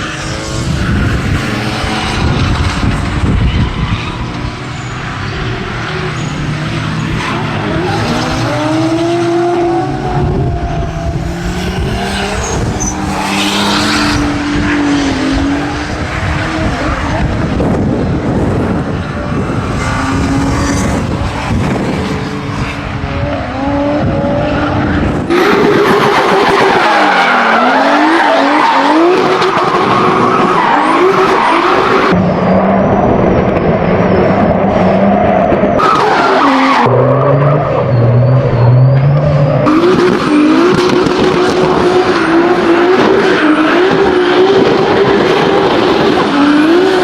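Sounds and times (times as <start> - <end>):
tyres squealing and skidding: 0.0 - 17.4, 18.8 - 47.0
car engine revving: 0.0 - 47.0.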